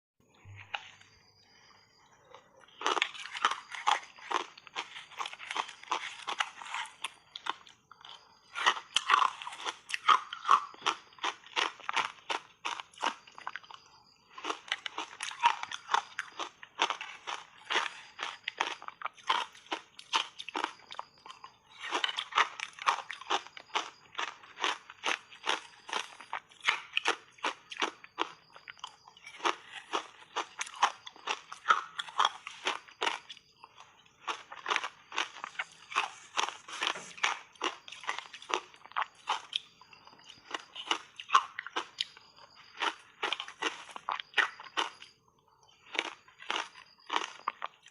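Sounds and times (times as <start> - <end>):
ice cubes crunching: 2.7 - 45.1.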